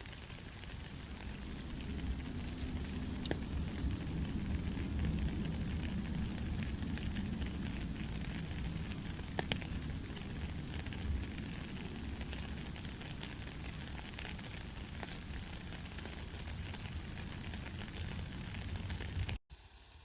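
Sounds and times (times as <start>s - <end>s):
steady rain falling: 0.0s - 20.0s
low rumble: 0.8s - 19.4s.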